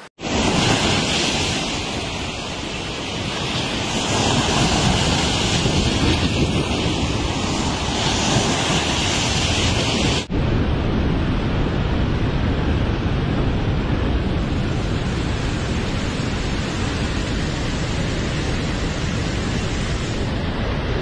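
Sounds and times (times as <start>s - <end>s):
water rushing from dam spillway: 0.0s - 10.3s, 13.2s - 21.0s.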